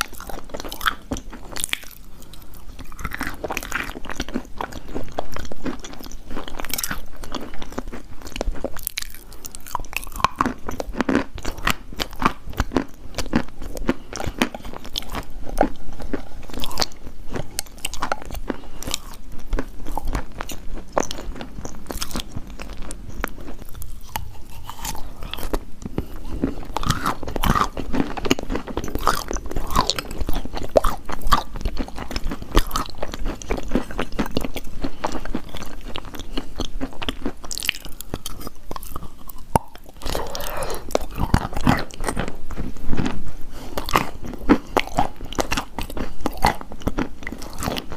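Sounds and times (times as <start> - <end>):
chewing hard chalk: 0.0 - 47.9.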